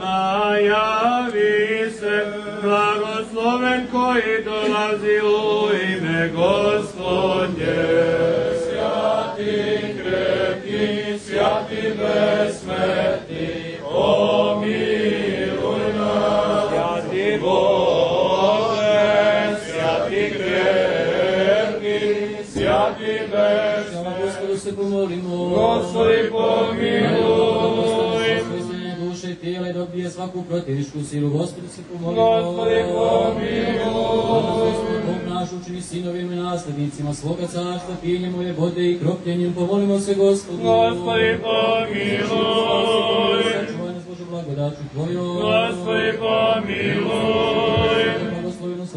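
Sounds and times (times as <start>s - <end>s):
men chanting liturgical chant: 0.0s - 48.9s.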